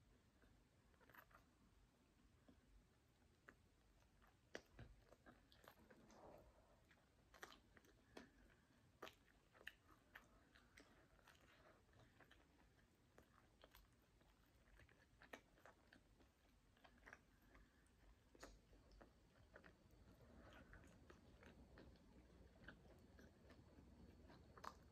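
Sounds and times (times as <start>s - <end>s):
faint chewing: 0.0s - 24.9s.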